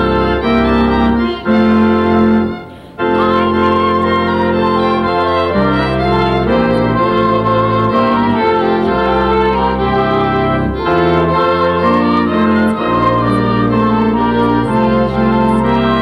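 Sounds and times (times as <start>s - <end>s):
church organ chords: 0.0s - 16.0s.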